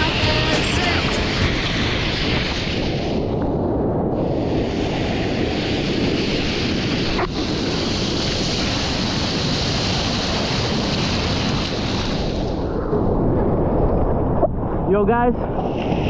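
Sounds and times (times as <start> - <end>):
ocean surf breaking: 0.0 - 13.1
wind buffeting microphone: 0.0 - 16.0.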